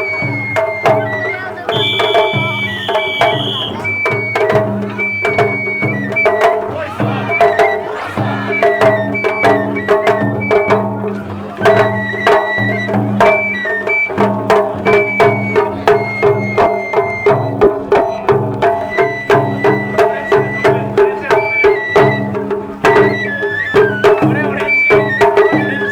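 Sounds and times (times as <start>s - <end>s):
drums beating: 0.0s - 25.9s
high flute melody: 0.0s - 25.9s
sharp struck percussion: 1.6s - 23.4s.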